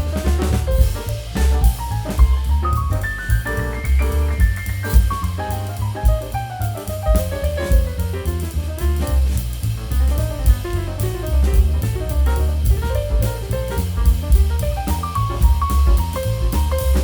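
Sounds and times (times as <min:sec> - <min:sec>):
jazz tune with drums and bass: 0:00.0 - 0:17.0.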